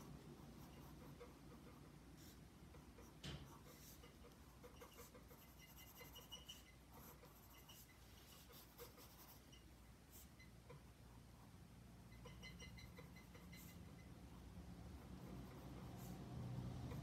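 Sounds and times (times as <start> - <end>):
low room hum: 0.0 - 17.0
pencil scratching on paper: 0.0 - 17.0.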